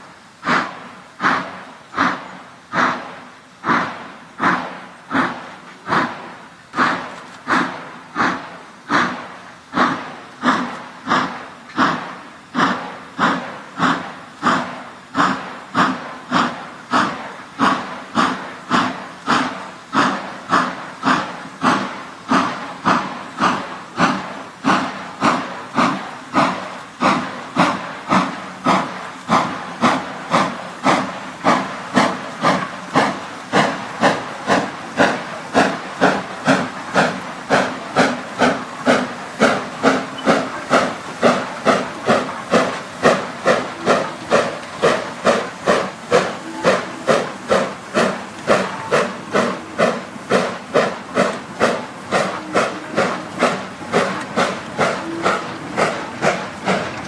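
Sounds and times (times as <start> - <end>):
steady hiss of steam: 0.0 - 57.0
steam locomotive exhaust barks: 0.0 - 57.0.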